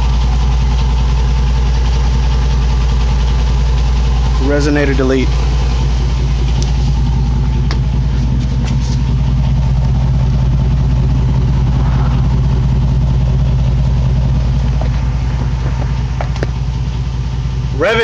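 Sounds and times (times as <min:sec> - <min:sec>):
engine idling low exhaust note: 0:00.0 - 0:18.0.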